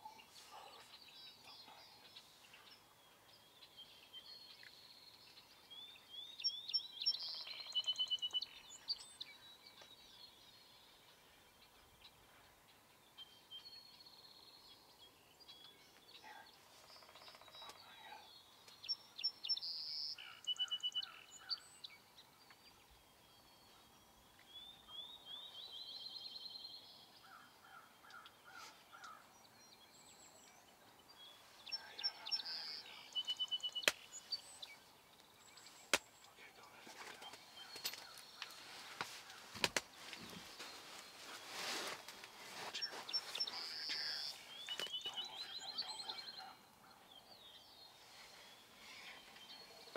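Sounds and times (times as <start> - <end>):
songbirds chirping and singing: 0.0 - 49.9.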